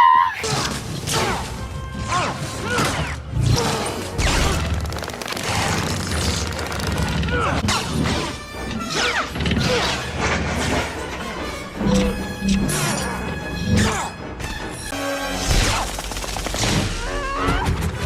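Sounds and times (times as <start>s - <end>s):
background music: 0.2s - 18.0s.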